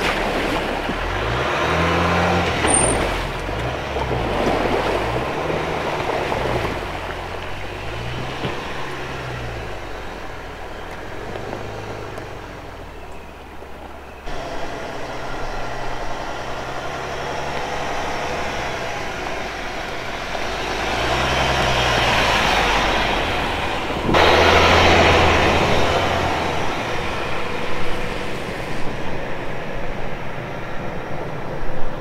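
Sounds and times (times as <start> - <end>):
vehicle driving on dirt track: 0.0 - 32.0.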